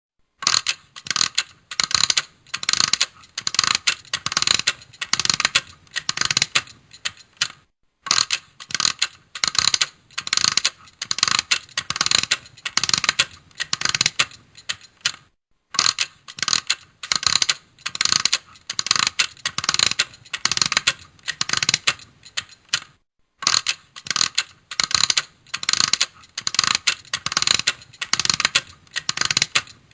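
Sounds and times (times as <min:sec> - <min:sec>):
clock winding ratchet clicks: 0:00.4 - 0:29.9.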